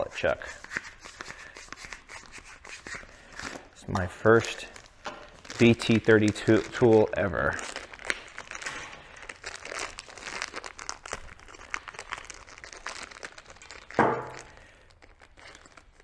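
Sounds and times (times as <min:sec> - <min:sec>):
packaging crinkling and tearing: 0:00.6 - 0:16.0.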